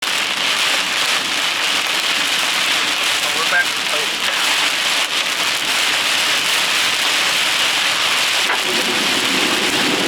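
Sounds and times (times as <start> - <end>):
heavy rain beating on vehicle: 0.0 - 10.0.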